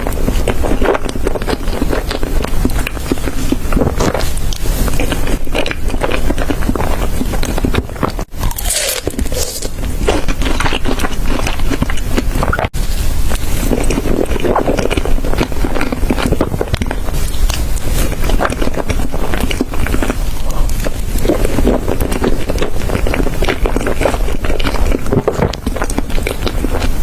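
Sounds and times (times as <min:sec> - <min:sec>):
wet chewing and crunching: 0:00.0 - 0:27.0.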